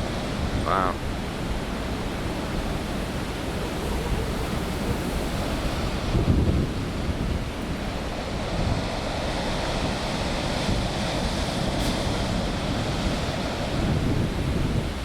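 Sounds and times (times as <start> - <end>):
surf waves breaking: 0.0 - 15.0
wind buffeting microphone: 0.0 - 15.0.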